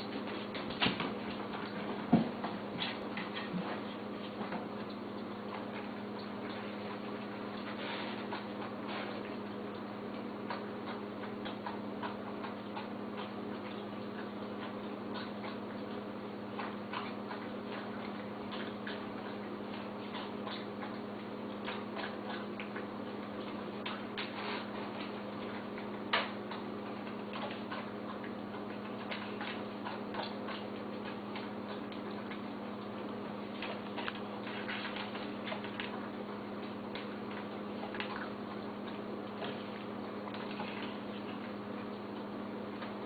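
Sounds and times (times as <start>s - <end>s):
dog chewing and licking: 0.0s - 43.0s
steady low hum: 0.0s - 43.0s.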